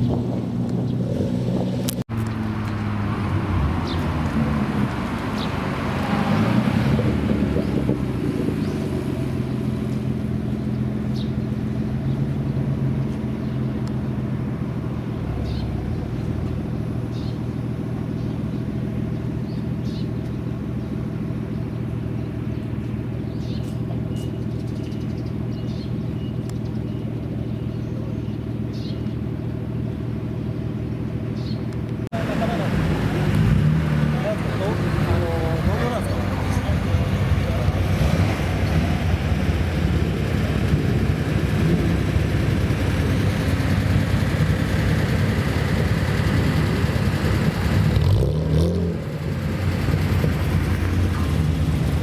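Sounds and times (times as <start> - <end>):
car engine idling: 7.6 - 48.2, 49.0 - 52.0.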